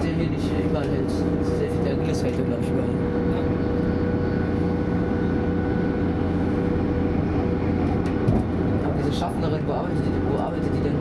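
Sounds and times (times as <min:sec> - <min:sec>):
railcar engine and wheels rumbling: 0:00.0 - 0:11.0.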